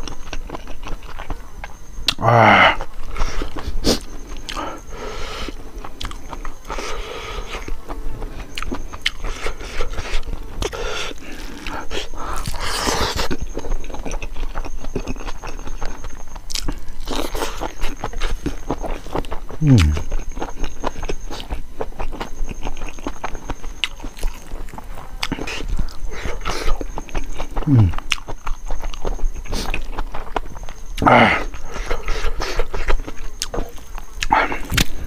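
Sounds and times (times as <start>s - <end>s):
wet chewing and lip-smacking: 0.0s - 2.2s, 2.8s - 35.0s.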